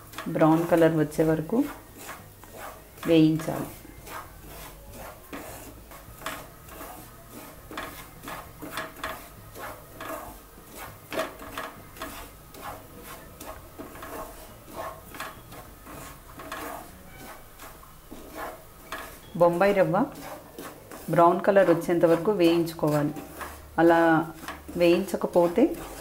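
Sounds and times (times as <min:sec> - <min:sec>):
spatula scraping frying pan: 0:00.0 - 0:26.0.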